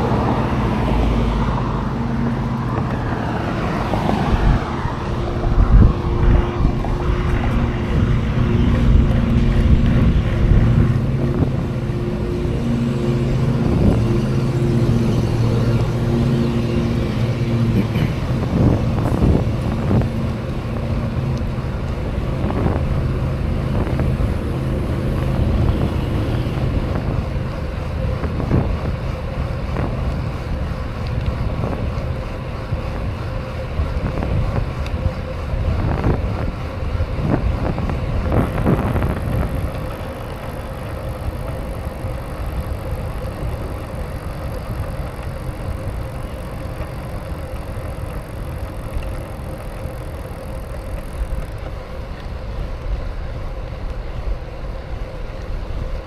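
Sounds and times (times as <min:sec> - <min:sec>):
bike rolling rumble: 0:00.0 - 0:56.0
wind buffeting microphone: 0:00.0 - 0:56.0.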